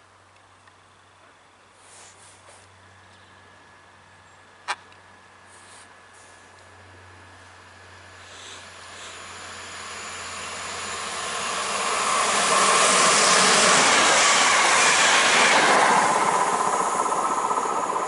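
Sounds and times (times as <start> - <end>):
train passing with wheel noise: 0.7 - 18.0.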